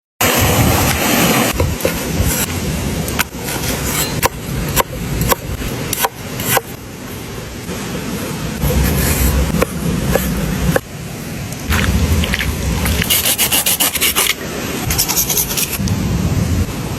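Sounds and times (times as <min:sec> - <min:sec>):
running water: 0:00.2 - 0:15.8.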